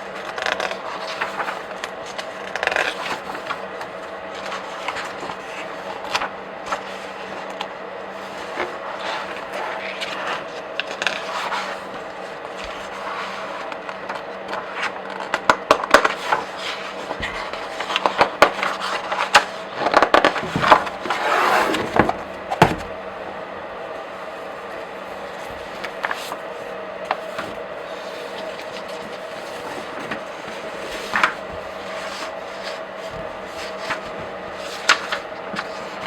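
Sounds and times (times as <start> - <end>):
comic book pages flipping: 0.2 - 23.4, 24.5 - 36.0.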